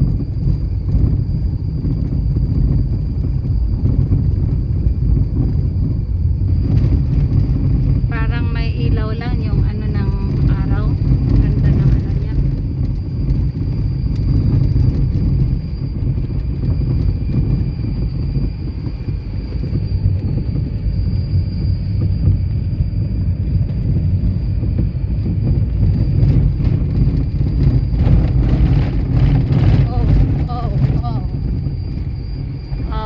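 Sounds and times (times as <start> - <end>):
low rumble of moving vehicle: 0.0 - 33.0
thin high whine: 4.9 - 33.0.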